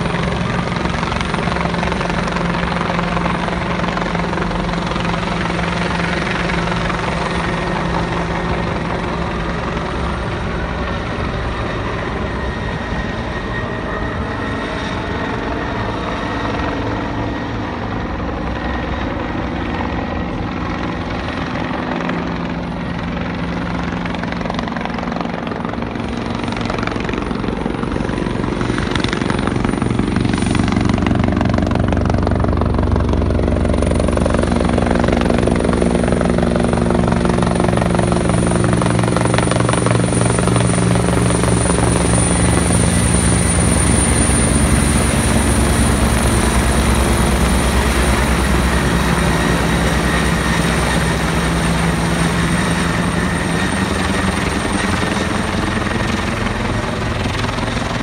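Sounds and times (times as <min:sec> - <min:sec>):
helicopter engine running: 0:00.0 - 0:58.0
helicopter rotor beating: 0:00.0 - 0:58.0.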